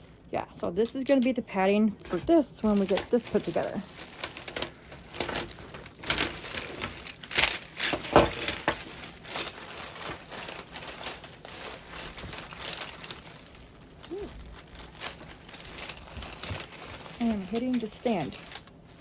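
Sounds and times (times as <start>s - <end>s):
fabric crinkling and rustling: 1.9s - 19.0s.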